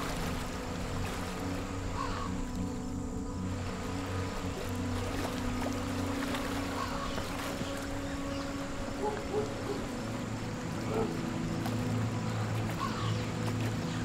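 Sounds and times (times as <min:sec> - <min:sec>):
fast-flowing river: 0:00.0 - 0:14.0
slow film score: 0:00.0 - 0:14.0.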